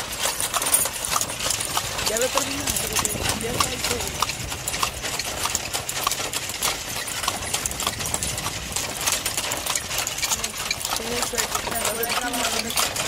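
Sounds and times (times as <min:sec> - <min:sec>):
carriage clattering: 0:00.0 - 0:13.0
horse hooves clip-clopping on road: 0:00.0 - 0:13.0.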